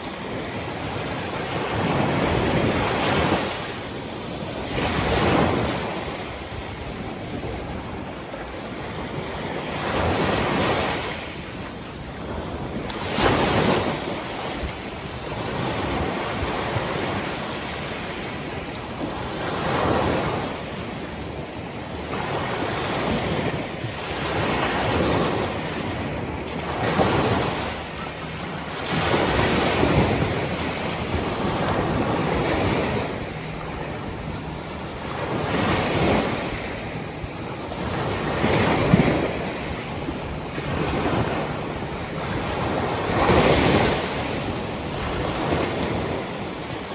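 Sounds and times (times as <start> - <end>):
ocean waves breaking on beach: 0.0 - 46.9
wind noise on microphone: 0.0 - 46.9.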